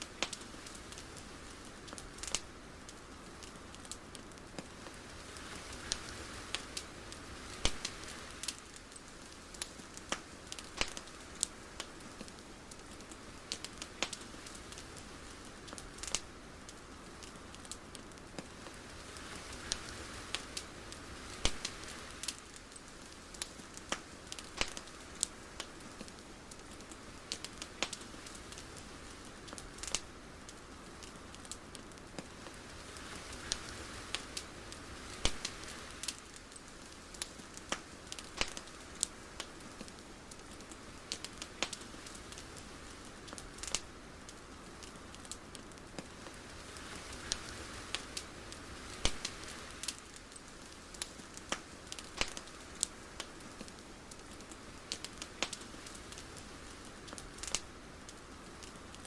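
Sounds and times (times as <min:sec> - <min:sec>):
sharp crackles and clicks: 0:00.0 - 0:59.0
soft hiss: 0:00.0 - 0:59.0.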